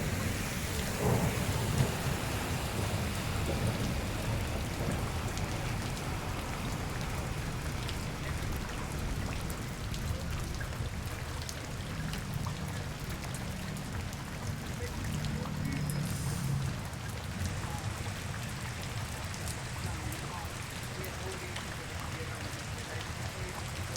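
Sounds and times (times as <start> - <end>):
rain falling on street: 0.0 - 23.9.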